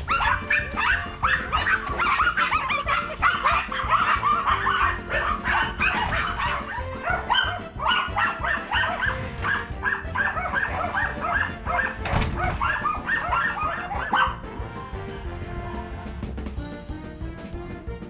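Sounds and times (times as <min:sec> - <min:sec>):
dogs yipping and barking: 0:00.0 - 0:14.7
background music: 0:00.0 - 0:18.0.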